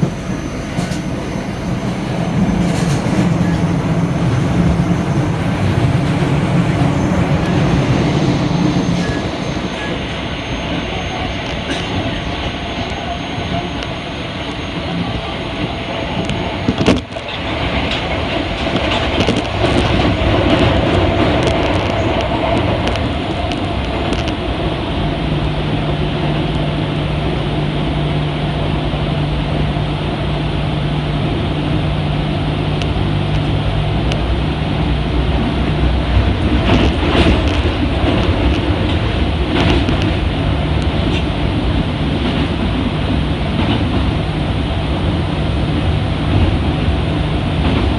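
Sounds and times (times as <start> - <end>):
subway wheel and motor noise: 0.0 - 47.9.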